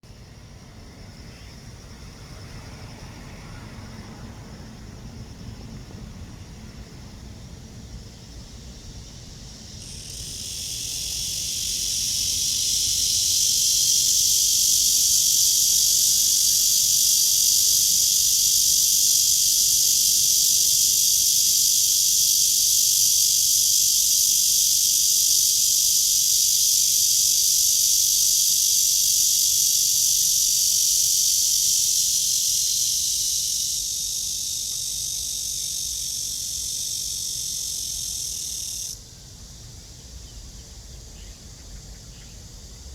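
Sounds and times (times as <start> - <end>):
cicada buzzing: 0.1 - 42.9.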